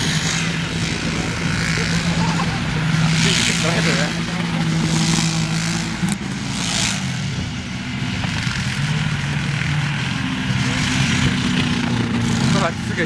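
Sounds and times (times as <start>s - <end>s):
quad engines revving: 0.0s - 13.0s.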